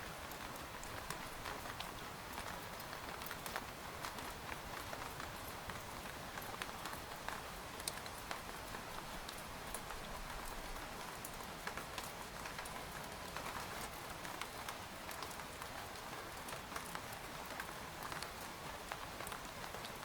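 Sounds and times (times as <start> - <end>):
rain pattering on a tent: 0.0 - 20.0.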